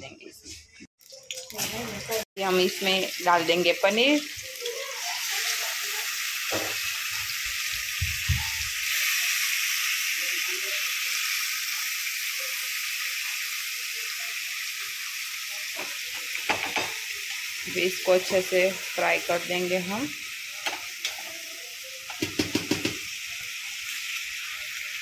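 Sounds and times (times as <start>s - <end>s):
food sizzling in hot oil: 1.0s - 25.0s.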